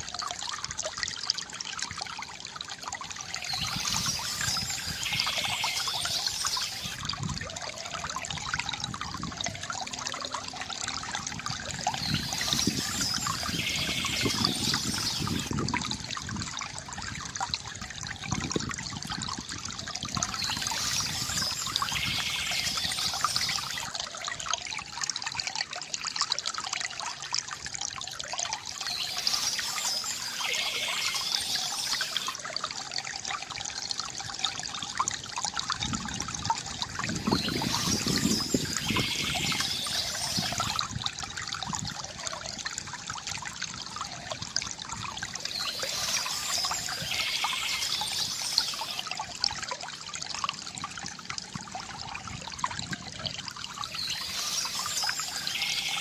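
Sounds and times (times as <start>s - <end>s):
bamboo fountain water trickling: 0.0s - 56.0s.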